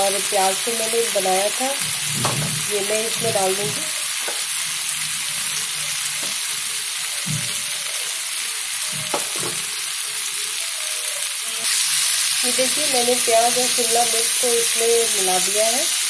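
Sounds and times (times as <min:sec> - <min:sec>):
gravy sizzling in frying pan: 0:00.0 - 0:16.0.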